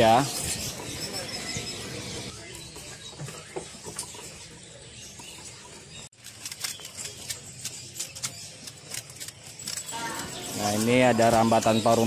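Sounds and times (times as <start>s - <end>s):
shop background noise: 0.0s - 12.0s
small birds chirping: 0.0s - 12.0s.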